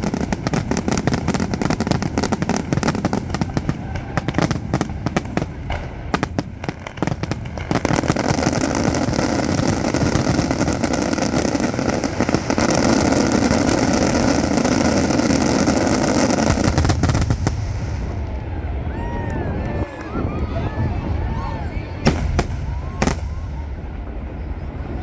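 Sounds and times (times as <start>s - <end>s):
firework bangs: 0.0s - 25.0s
firework crackling barrage: 0.0s - 25.0s.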